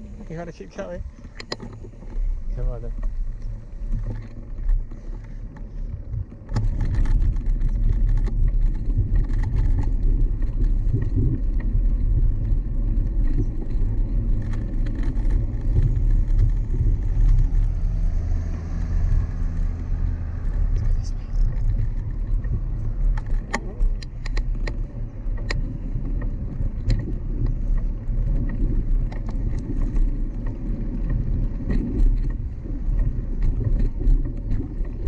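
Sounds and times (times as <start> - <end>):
bicycle rumbling and rattling: 0.0 - 35.0.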